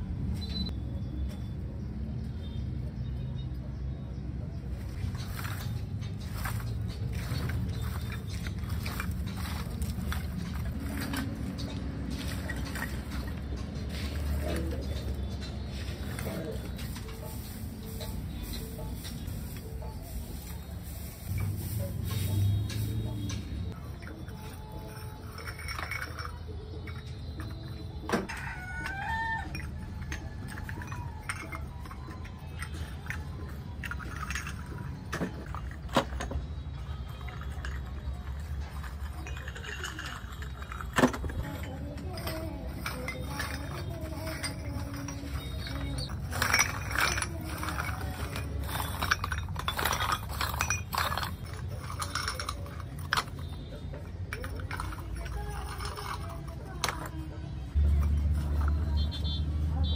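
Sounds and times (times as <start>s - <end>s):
clay cups clinking and scraping: 3.6s - 59.9s.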